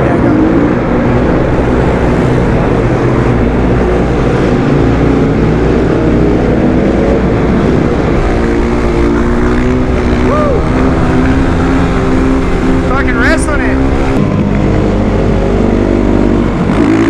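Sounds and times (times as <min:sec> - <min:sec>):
motorcycle engine under throttle: 0:00.0 - 0:17.0
wind noise: 0:00.0 - 0:17.0.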